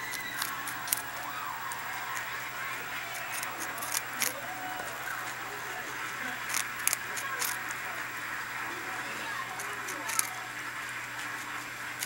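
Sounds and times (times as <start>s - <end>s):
rabbit chewing carrot crunches: 0.0s - 12.0s.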